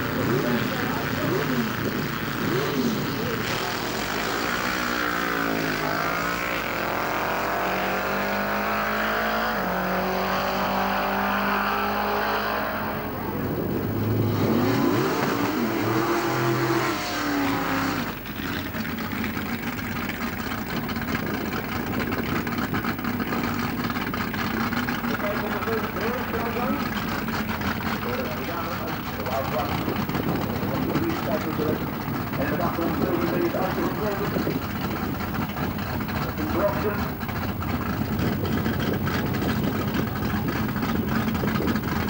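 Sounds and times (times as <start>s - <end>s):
engine revving up and down: 0.0s - 42.0s
race car engine accelerating: 0.0s - 42.0s
rough engine running low: 0.0s - 42.0s.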